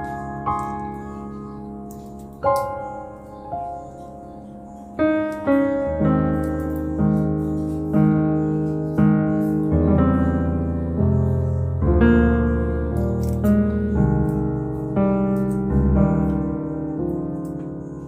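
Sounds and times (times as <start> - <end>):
slow piano notes: 0.0 - 18.0.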